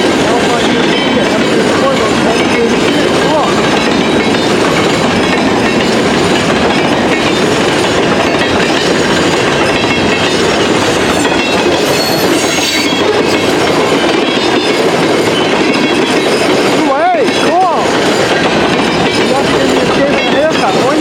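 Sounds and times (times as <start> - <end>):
freight train wheels rumbling: 0.0 - 21.0
train wheel squeals: 0.0 - 21.0.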